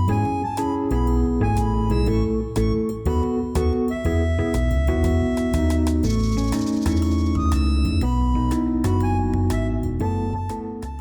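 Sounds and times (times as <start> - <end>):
steady bass: 0.0 - 11.0
upbeat keyboard and synthesizer tune: 0.0 - 11.0.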